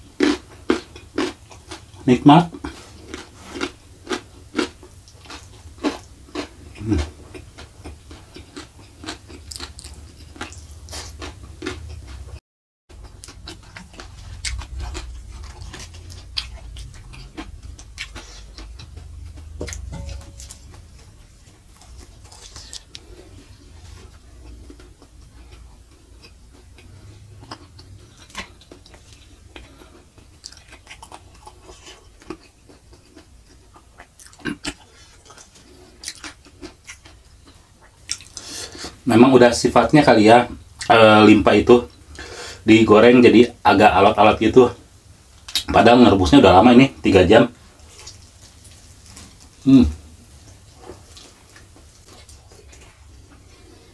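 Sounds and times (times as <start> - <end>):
wet mouth chewing sounds: 0.1 - 39.0, 47.8 - 53.9.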